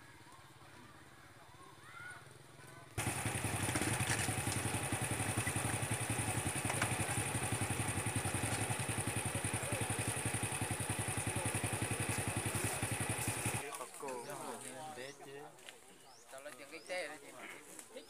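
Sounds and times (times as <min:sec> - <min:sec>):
small motorcycle engines puttering: 0:00.1 - 0:15.2.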